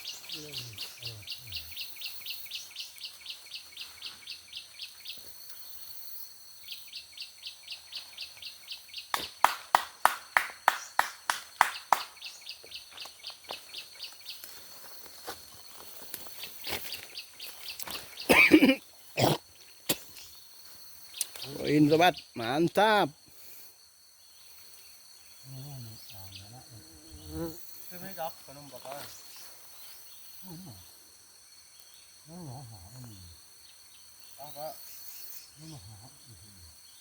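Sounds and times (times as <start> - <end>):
insect drone: 0.0 - 37.0.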